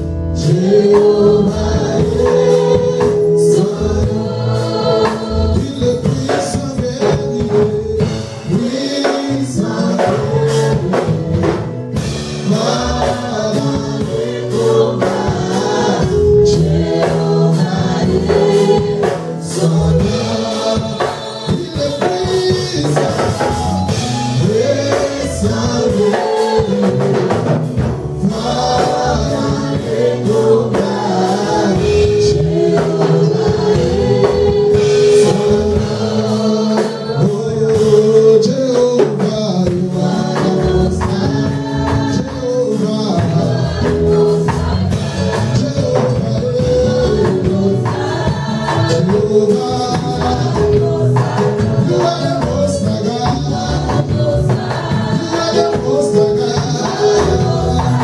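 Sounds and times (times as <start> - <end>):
choir singing: 0.0 - 38.6, 39.5 - 58.0
band with drums: 0.0 - 58.0
man singing lead: 0.0 - 58.0.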